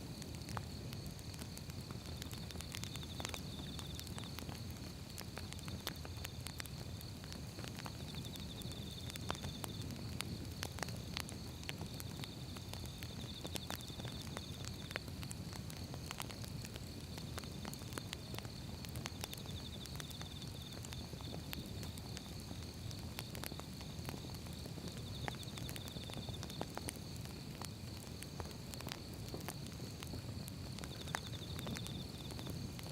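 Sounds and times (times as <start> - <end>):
firewood crackling and popping: 0.0 - 32.9
low rumble of flames: 0.0 - 32.9.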